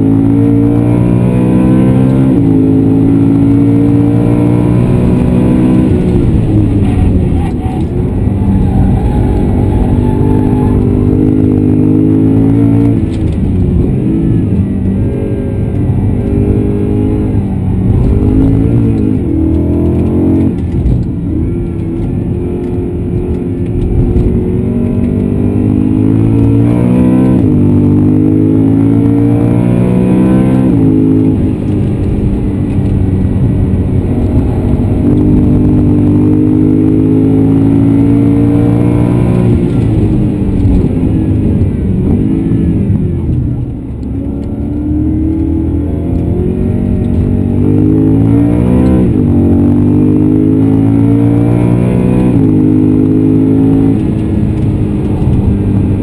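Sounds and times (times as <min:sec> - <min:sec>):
car engine accelerating and upshifting: 0:00.0 - 0:56.0.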